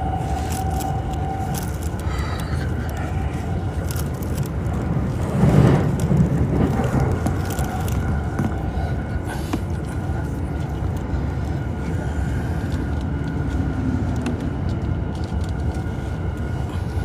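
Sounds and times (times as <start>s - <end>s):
train motor whine: 0.0s - 17.0s
train rumbling: 0.0s - 17.0s.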